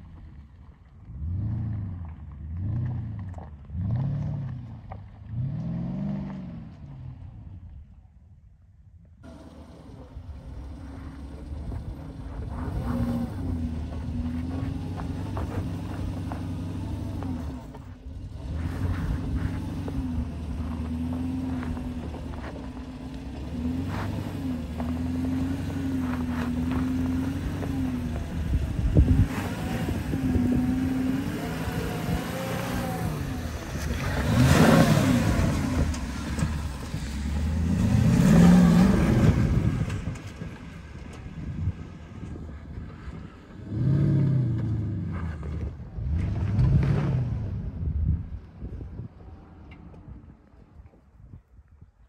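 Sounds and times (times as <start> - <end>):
car engine at low revs: 0.0 - 8.1, 9.0 - 51.6.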